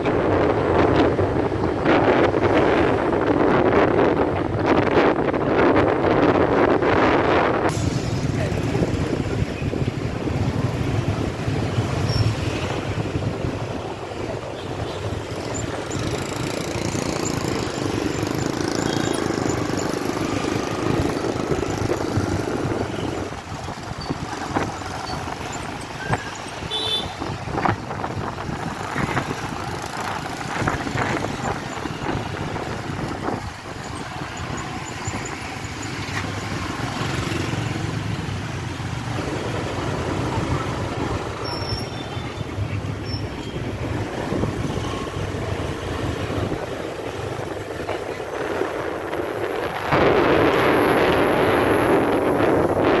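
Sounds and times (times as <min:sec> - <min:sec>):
motorbike and car engines: 0:00.0 - 0:53.0
road and wind noise: 0:00.0 - 0:53.0.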